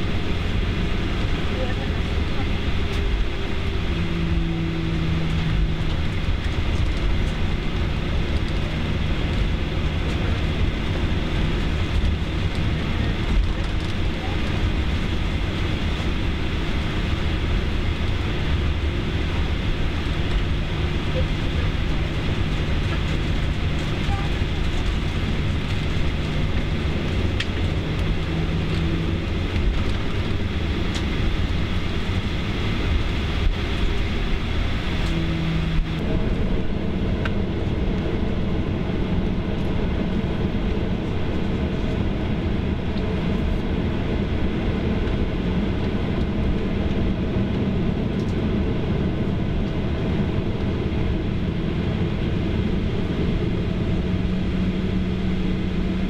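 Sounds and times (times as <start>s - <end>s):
jet engines rumbling: 0.0s - 56.0s
wheels rolling on taxiway: 0.0s - 56.0s.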